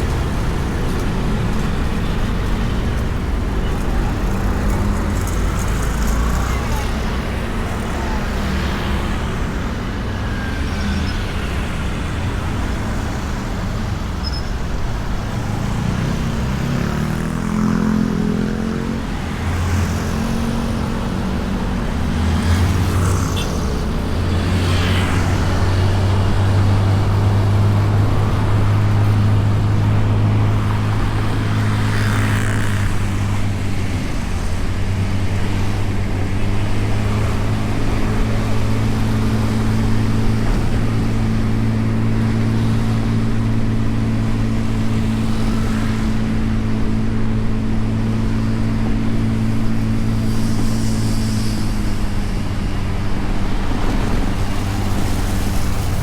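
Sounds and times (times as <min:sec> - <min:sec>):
road and wind noise: 0:00.0 - 0:56.0
vehicles passing: 0:00.0 - 0:56.0.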